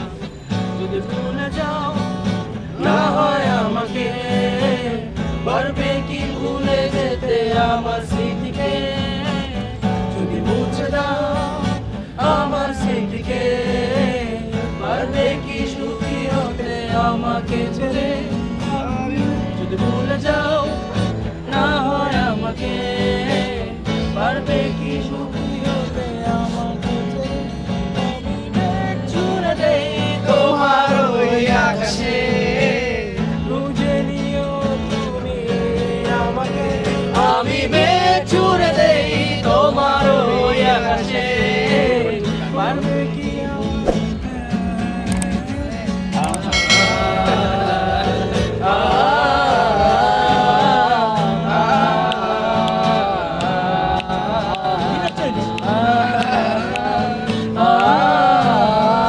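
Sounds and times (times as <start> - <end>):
acoustic guitar strumming: 0.0 - 59.0
men singing: 0.0 - 59.0.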